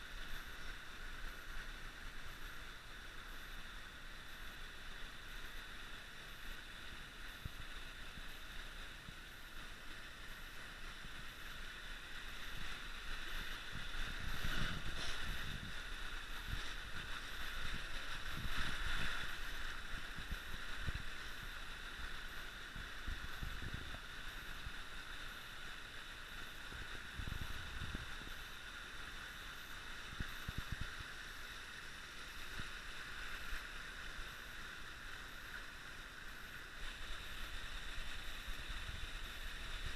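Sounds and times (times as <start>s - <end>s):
creek water gurgling over shale: 0.0s - 39.9s.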